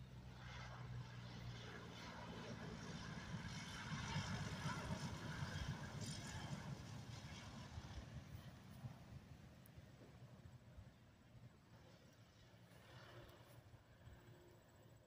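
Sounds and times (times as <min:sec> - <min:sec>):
propeller plane engine: 0:00.0 - 0:15.0.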